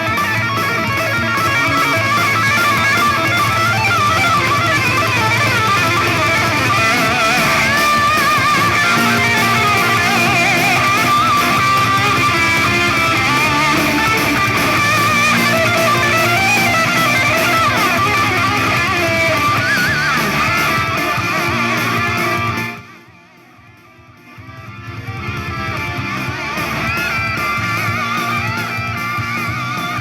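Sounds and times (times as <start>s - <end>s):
rock music on speaker: 0.0s - 30.0s.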